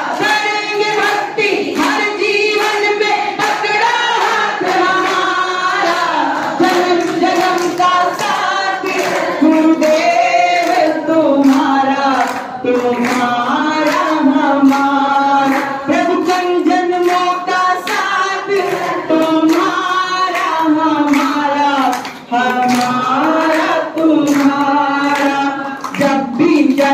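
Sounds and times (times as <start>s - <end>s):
group of women singing devotional song: 0.0s - 26.9s
rhythmic hand clapping: 0.0s - 26.9s.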